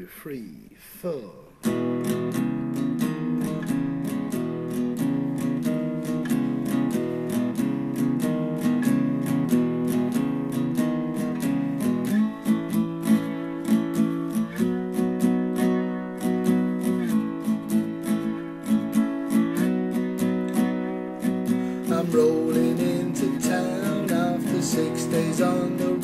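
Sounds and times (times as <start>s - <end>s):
acoustic guitar blues boogie: 1.5s - 26.0s.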